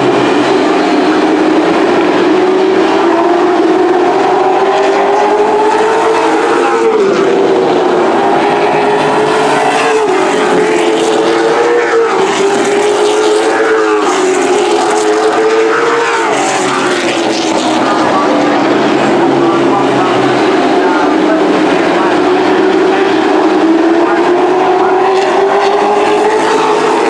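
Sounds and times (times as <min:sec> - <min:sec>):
racing truck engines at full throttle: 0:00.0 - 0:27.0.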